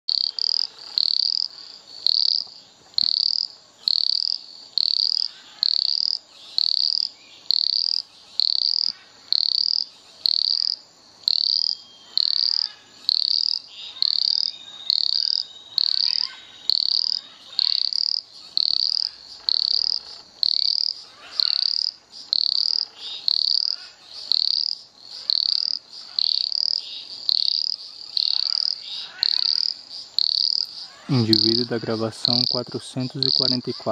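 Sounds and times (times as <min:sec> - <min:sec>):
frog calling: 0:00.1 - 0:33.9.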